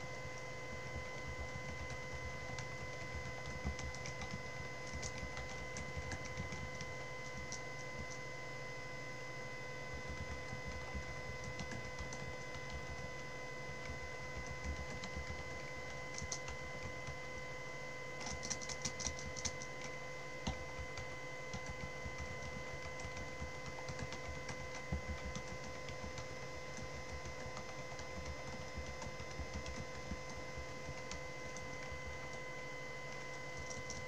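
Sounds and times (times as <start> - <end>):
faint steady whine: 0.0 - 34.0
keyboard typing: 0.3 - 8.2, 9.9 - 17.4, 18.2 - 34.0.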